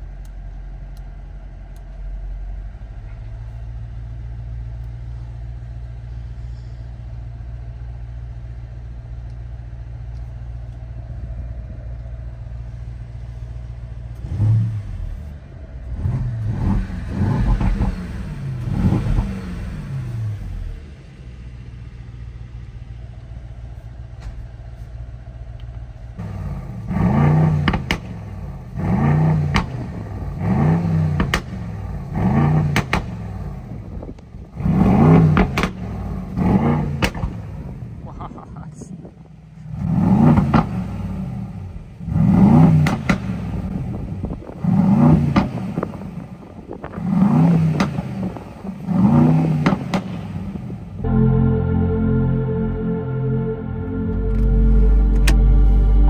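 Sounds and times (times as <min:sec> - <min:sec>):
car engine idling: 0:00.0 - 0:56.0
engine throttle blips: 0:00.0 - 0:56.0.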